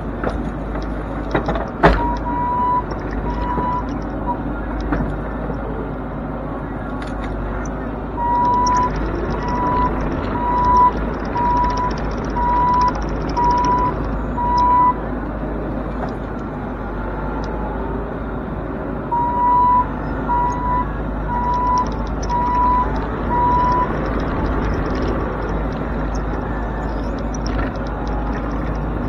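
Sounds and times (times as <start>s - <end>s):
diesel engine running: 0.0s - 29.0s
excavator travel alarm beeping: 0.7s - 5.7s, 6.7s - 15.2s, 19.0s - 29.0s.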